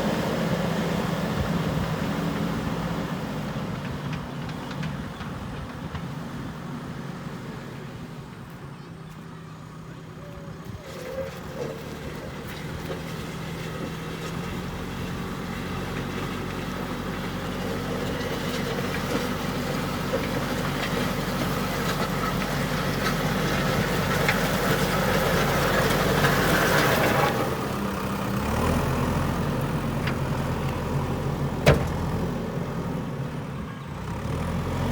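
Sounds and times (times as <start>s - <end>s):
backhoe diesel engine running: 0.0s - 34.9s.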